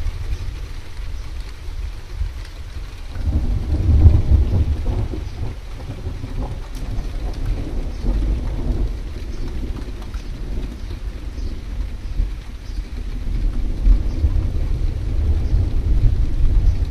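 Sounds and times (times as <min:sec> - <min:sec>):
rain falling: 0:00.0 - 0:16.9
thunder rumbling: 0:00.0 - 0:16.9.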